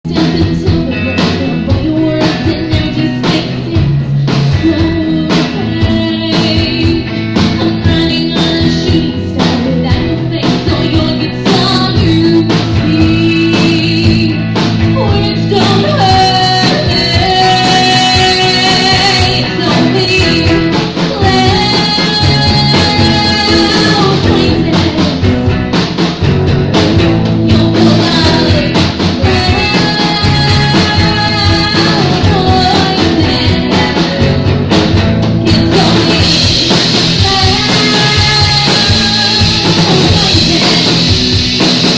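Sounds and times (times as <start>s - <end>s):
live rock band music: 0.0s - 41.9s.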